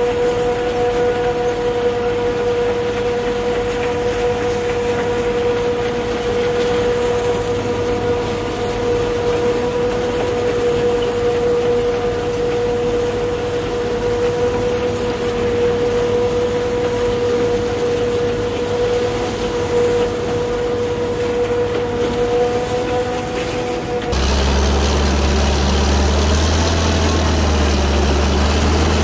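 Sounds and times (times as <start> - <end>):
engine running: 0.0 - 29.0
forage harvester mechanical whine: 0.0 - 29.0.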